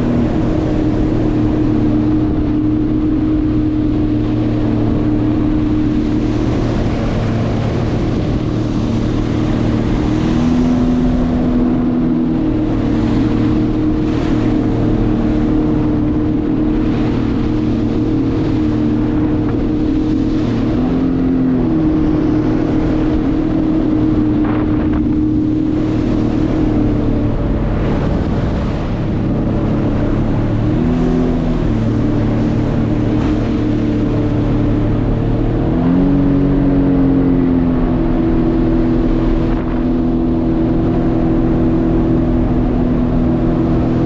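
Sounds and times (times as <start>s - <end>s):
jet ski engine running: 0.0s - 44.0s
wind noise on microphone: 0.0s - 44.0s.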